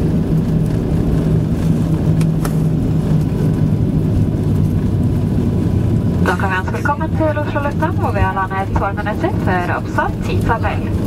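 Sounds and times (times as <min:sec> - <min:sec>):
jet engines humming at low power: 0:00.0 - 0:11.0.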